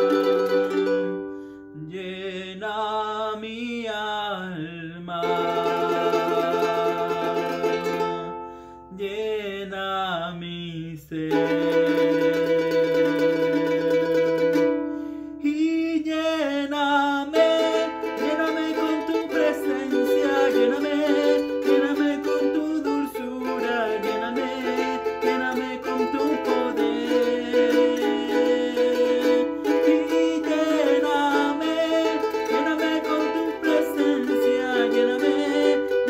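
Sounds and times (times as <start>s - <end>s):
ukulele strumming: 0.0s - 1.9s, 5.1s - 8.9s, 11.2s - 36.0s
man singing: 0.0s - 14.8s, 15.4s - 36.0s.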